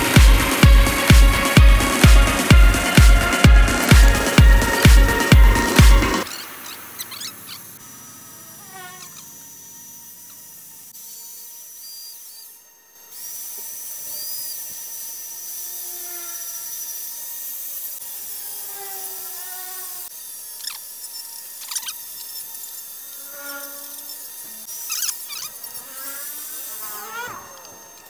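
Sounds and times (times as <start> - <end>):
power carving tool cutting wood: 0.0 - 28.0.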